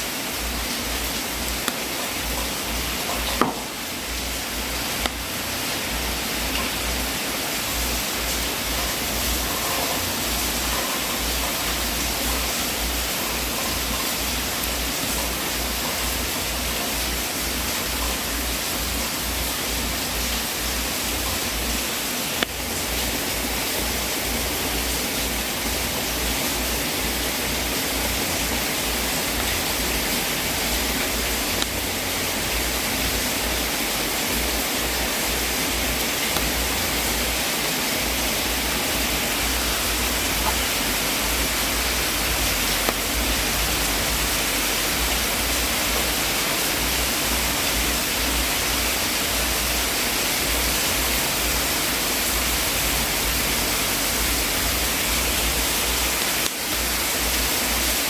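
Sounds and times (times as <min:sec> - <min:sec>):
wood fire hissing: 0:00.0 - 0:58.0.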